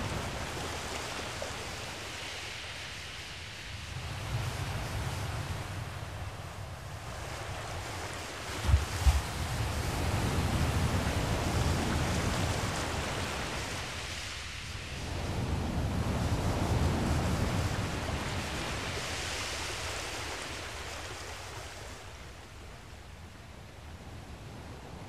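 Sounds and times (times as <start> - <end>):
rushing wind: 0.0 - 22.3
rushing water: 0.0 - 23.1.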